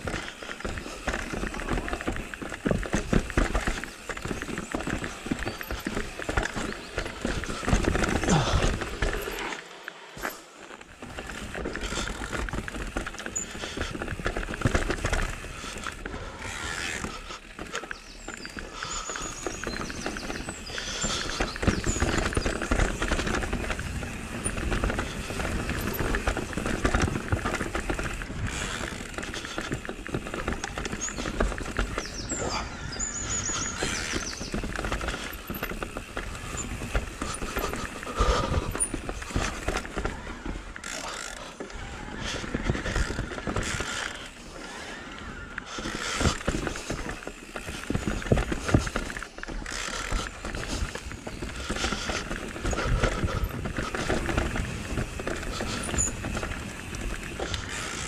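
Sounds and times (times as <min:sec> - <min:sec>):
bike chain and suspension rattling: 0:00.0 - 0:58.0
bike tyres rumbling over rocks: 0:00.0 - 0:58.0.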